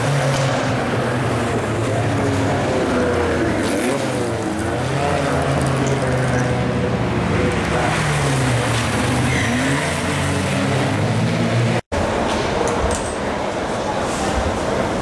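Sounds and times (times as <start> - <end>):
racing cars driving past: 0.0 - 12.6.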